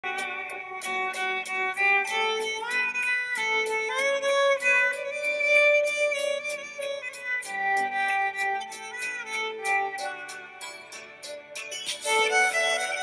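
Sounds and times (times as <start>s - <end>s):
light ticking beat: 0.0s - 13.0s
sliding violin melody: 0.0s - 13.0s.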